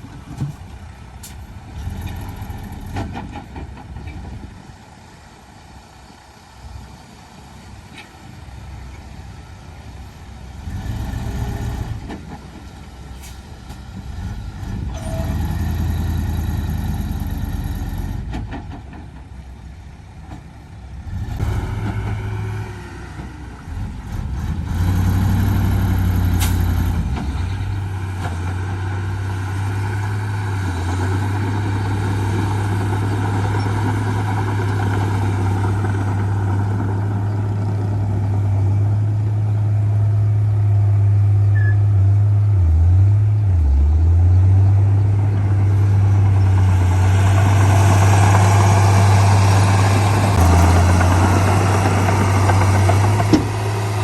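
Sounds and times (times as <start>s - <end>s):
heavy machinery diesel engines: 0.0s - 54.0s.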